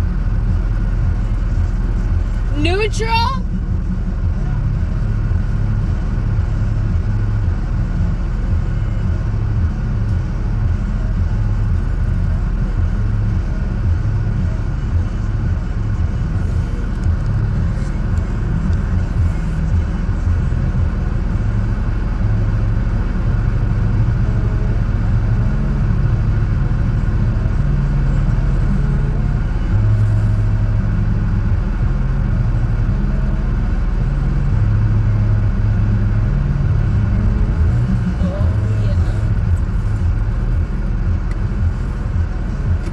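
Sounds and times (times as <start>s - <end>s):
truck engine rumbling under load: 0.0s - 42.9s.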